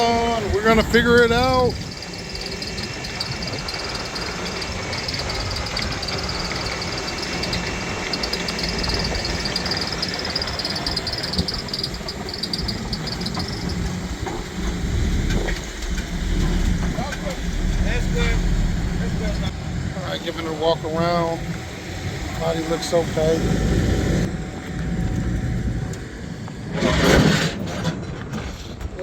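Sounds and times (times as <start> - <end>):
high warbling whine: 0.0 - 26.5
low engine rumble: 0.0 - 26.7
engine running with hiss: 0.0 - 27.7.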